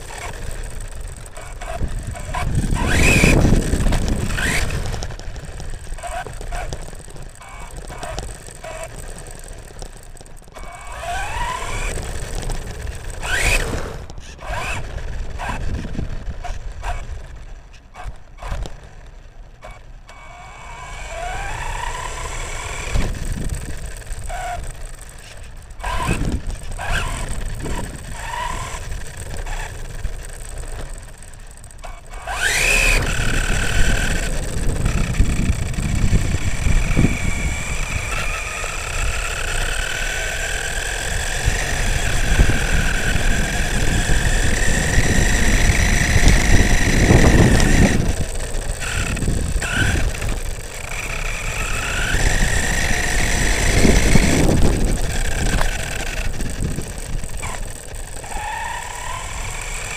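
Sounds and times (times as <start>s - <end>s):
toy truck electric motor whining: 0.0s - 59.9s
tyres rumbling on rough ground: 0.0s - 59.9s.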